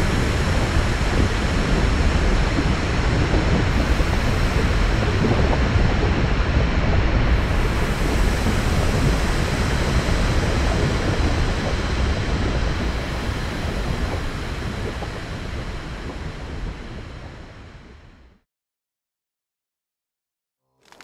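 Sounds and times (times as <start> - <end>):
volcano eruption rumbling: 0.0 - 18.4.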